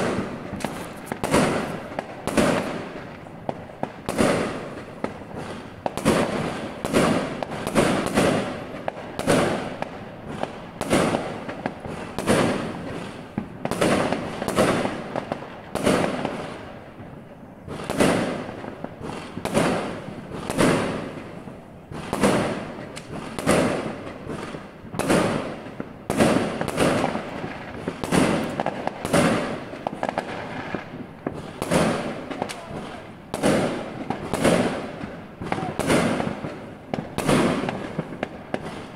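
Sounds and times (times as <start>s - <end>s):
fireworks bangs with echo: 0.0s - 38.9s.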